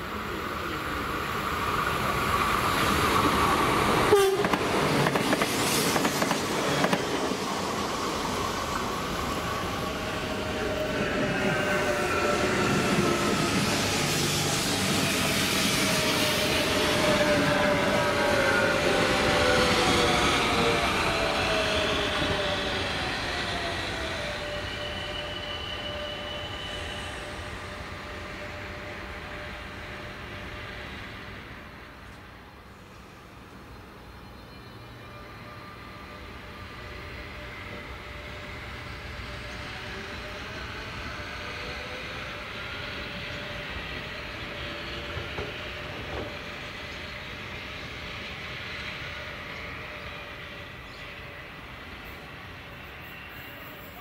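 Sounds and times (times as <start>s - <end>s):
high whine from train: 0.0s - 54.0s
train running past: 0.0s - 54.0s.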